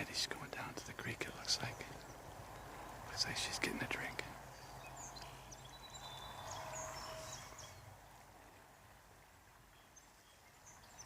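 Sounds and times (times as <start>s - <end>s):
birds chirping: 0.0s - 9.0s, 9.6s - 11.0s.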